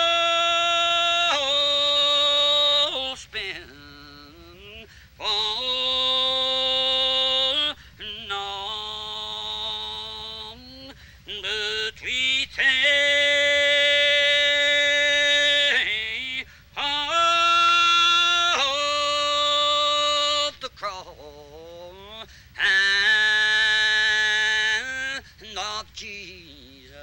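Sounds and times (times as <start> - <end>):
unaccompanied hymn singing: 0.0 - 27.0.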